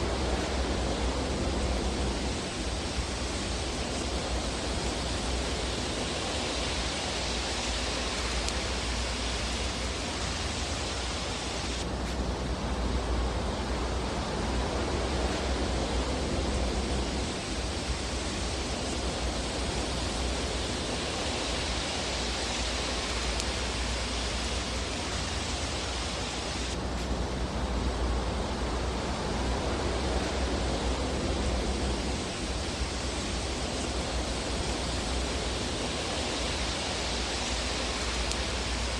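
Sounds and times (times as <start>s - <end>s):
fire rushing hiss: 0.0s - 38.9s.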